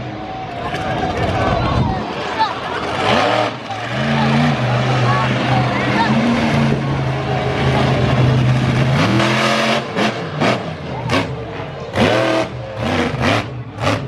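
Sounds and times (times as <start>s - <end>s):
truck engine rumbling and revving: 0.0s - 14.0s.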